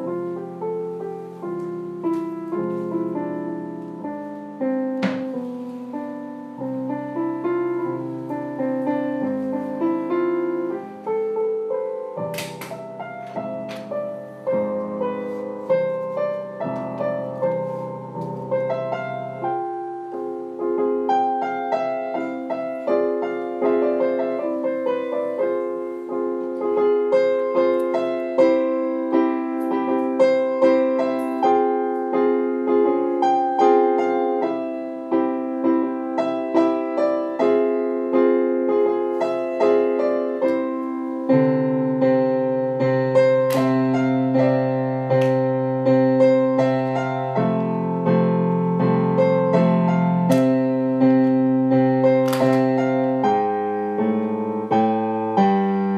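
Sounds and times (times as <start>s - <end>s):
gentle piano music: 0.0s - 55.9s.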